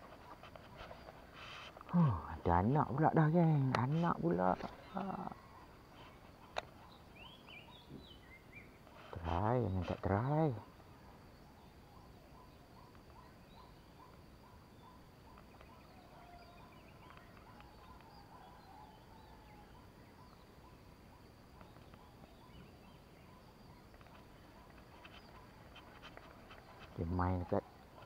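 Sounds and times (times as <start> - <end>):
faint bird chirps: 0.1 - 28.0.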